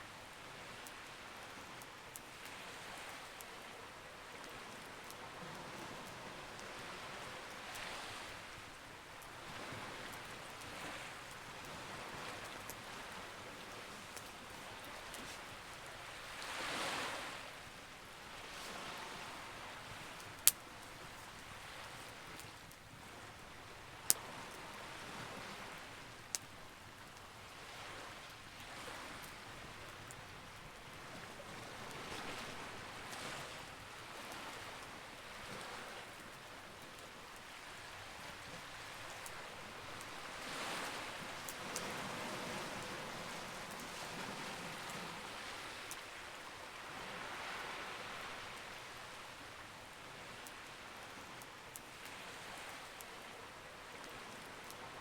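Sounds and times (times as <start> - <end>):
campfire crackling: 0.1 - 54.8.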